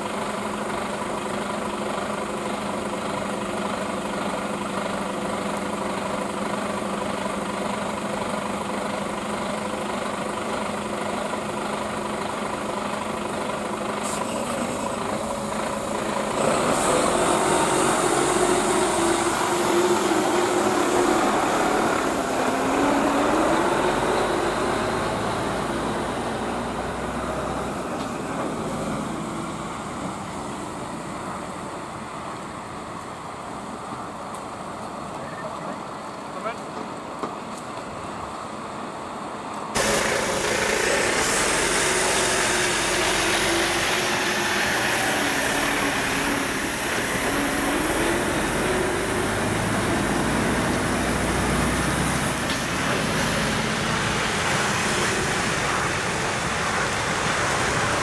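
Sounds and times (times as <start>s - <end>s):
truck diesel engine idling and revving: 0.0s - 35.2s, 37.9s - 58.0s.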